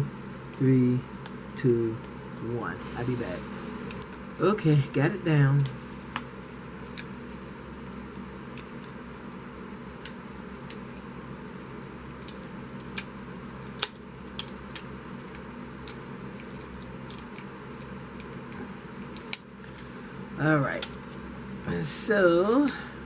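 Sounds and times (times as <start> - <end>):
room hum: 0.0 - 23.0.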